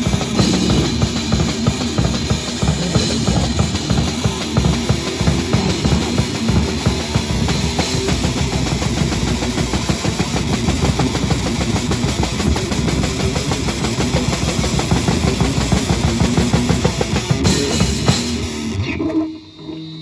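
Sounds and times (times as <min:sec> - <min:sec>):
fast drum kit hits: 0:00.0 - 0:18.7
heavy metal band playing live: 0:00.0 - 0:18.8
loud distorted guitars: 0:00.0 - 0:20.0.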